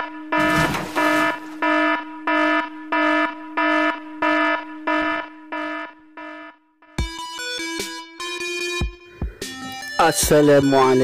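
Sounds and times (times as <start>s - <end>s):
pulsing electronic alarm tone: 0.0s - 8.9s.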